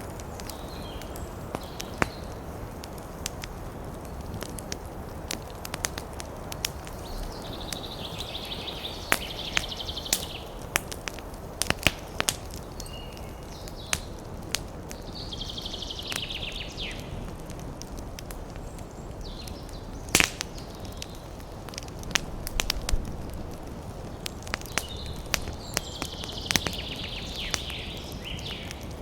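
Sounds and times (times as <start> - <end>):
fire crackles and pops: 0.0 - 29.0
wood fire burning: 0.0 - 29.0.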